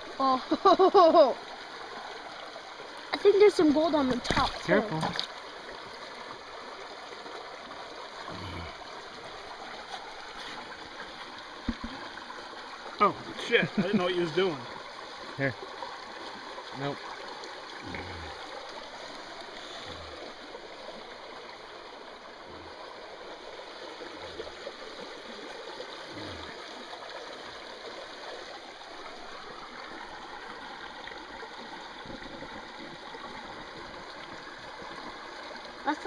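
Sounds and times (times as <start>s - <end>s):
rocky creek flowing water: 0.0s - 36.0s.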